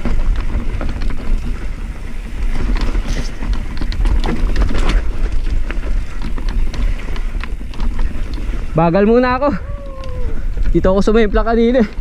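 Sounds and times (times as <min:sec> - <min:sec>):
bike clattering and rattling: 0:00.0 - 0:12.0
wind rumble on microphone: 0:00.0 - 0:12.0.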